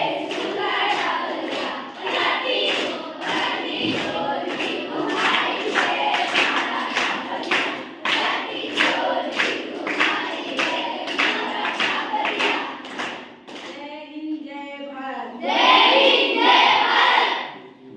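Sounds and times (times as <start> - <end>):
children singing a chant: 0.0 - 13.4, 15.2 - 17.6.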